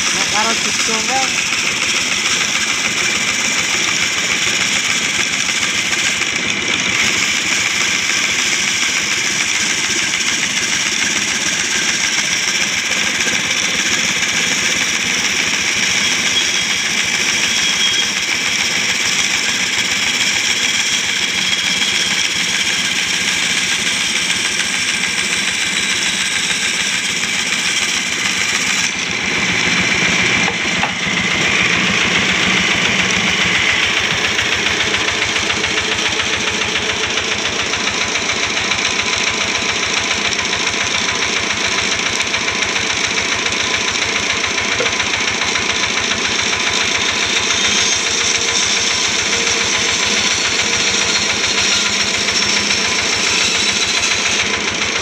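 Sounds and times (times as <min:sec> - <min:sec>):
bandsaw cutting wood: 0:00.0 - 0:55.0.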